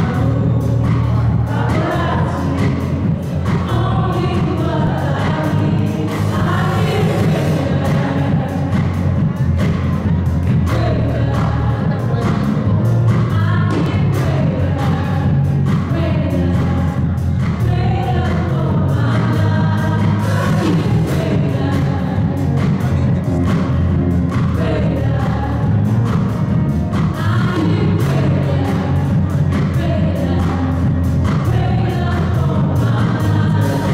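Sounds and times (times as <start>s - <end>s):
band with bass and drums: 0.0s - 33.9s
gospel voices singing together: 0.0s - 33.9s.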